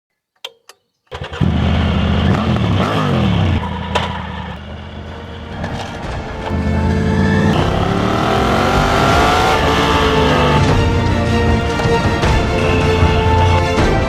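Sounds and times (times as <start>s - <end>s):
motorcycle engine revving: 1.1s - 14.0s.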